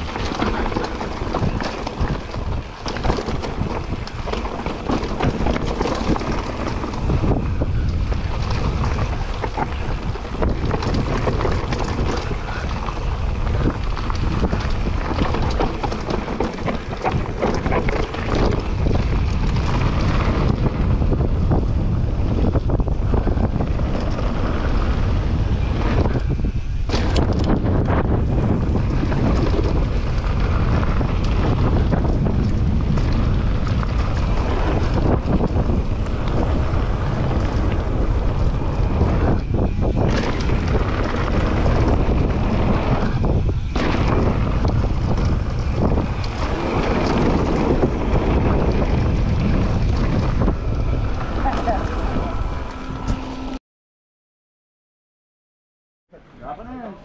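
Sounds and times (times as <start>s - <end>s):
bike rattling over bumps: 0.0s - 53.6s
tyres rumbling on dirt: 0.0s - 53.6s
wind buffeting microphone: 0.0s - 53.6s.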